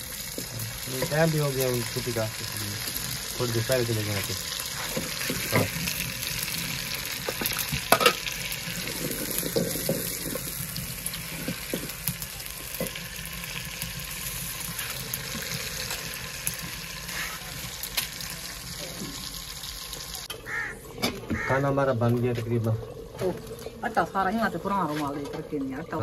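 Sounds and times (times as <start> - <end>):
curry sizzling in a pot: 0.0 - 26.0.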